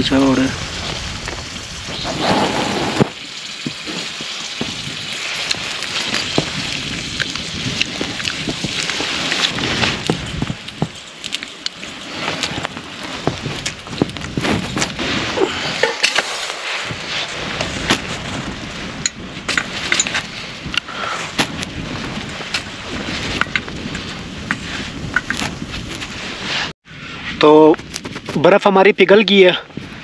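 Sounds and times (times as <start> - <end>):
snow crackling and sizzling in pot: 0.0 - 26.8.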